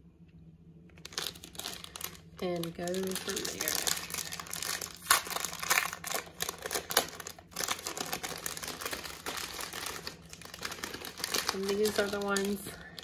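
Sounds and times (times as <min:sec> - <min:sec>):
plastic packaging crinkling: 0:00.9 - 0:13.0.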